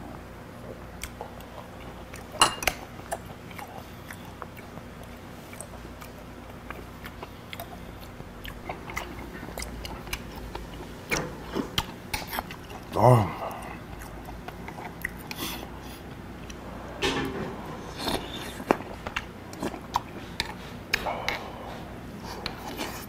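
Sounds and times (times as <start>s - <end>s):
man chewing meat: 0.0s - 16.8s, 17.6s - 23.0s.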